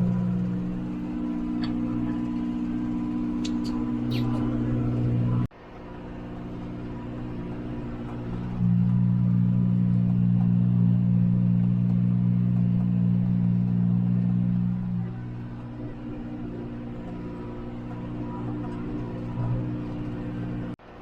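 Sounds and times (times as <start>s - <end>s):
tractor engine running: 0.0s - 20.8s.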